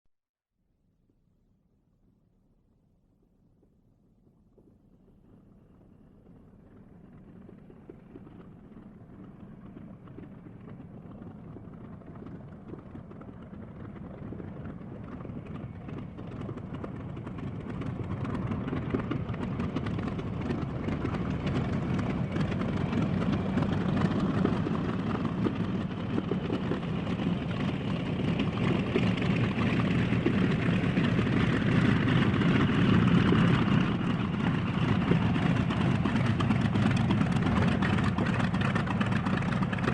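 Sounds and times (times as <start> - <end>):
airplane engine at rough idle: 4.5 - 39.9.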